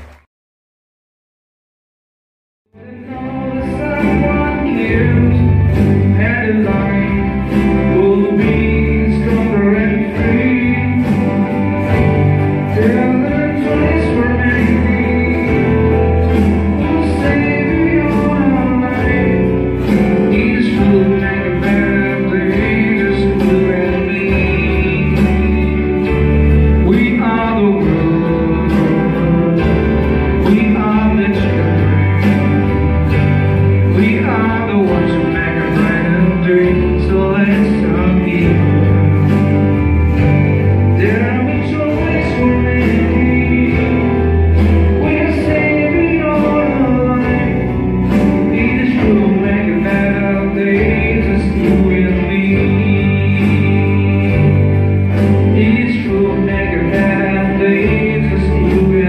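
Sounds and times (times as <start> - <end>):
electronic keyboard music: 2.7 - 59.0
person singing: 2.8 - 59.0.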